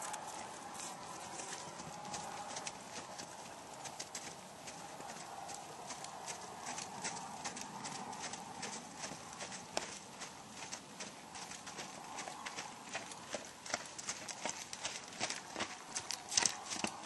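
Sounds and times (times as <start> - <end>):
hoofbeats on snow and ice: 0.0 - 17.0.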